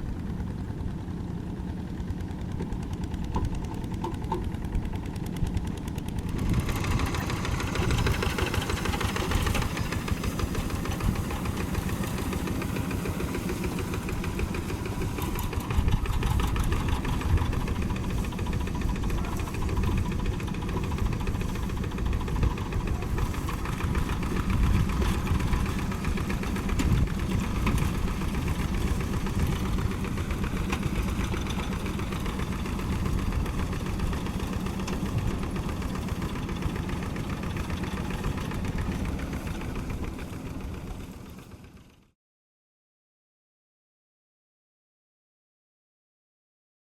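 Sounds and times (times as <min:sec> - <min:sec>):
tractor diesel engine clattering: 0:00.0 - 0:42.0.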